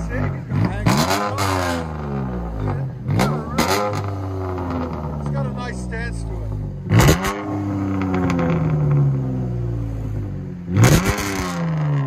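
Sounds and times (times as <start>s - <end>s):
car exhaust free-revving: 0.0s - 12.0s.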